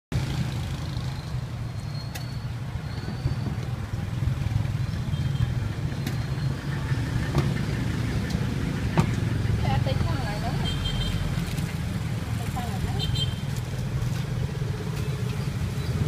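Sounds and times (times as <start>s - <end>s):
motor traffic rumble: 0.1s - 16.0s.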